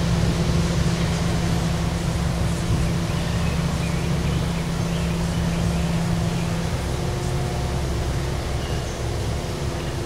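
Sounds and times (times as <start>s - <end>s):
constant hum: 0.0s - 10.0s
low mechanical rumble: 0.0s - 10.0s.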